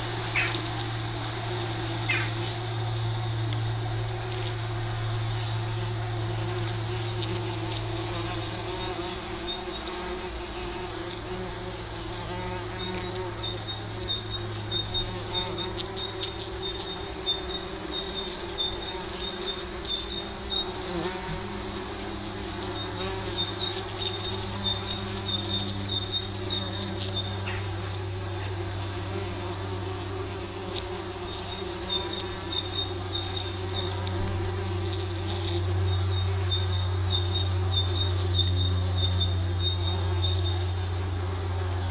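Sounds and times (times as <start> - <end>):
bumblebees buzzing: 0.0 - 41.9.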